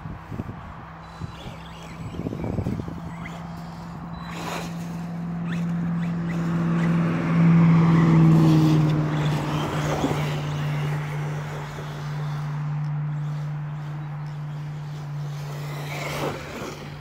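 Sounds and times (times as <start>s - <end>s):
pickup truck driving past: 3.0s - 17.0s.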